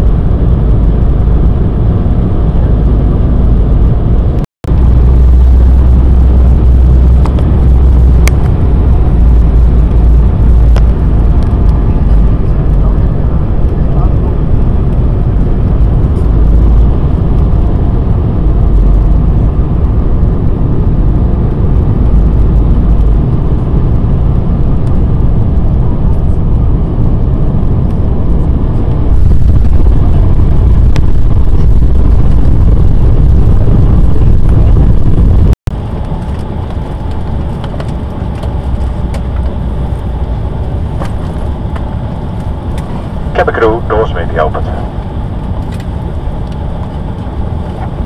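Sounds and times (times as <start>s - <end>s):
engine and air rumble: 0.0s - 48.0s
quiet cabin hum: 0.0s - 48.0s.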